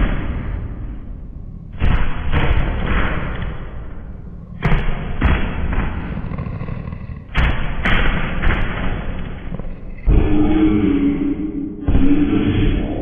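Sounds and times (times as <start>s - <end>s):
deep booming thuds: 1.7s - 6.4s, 7.2s - 13.0s.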